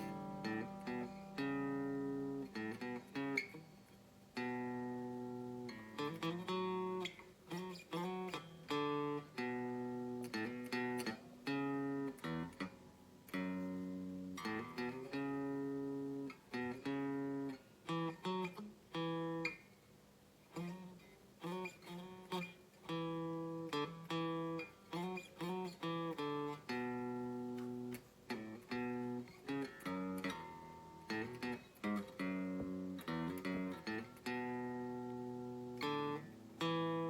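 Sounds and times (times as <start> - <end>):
guitar playing chords: 0.0 - 37.0.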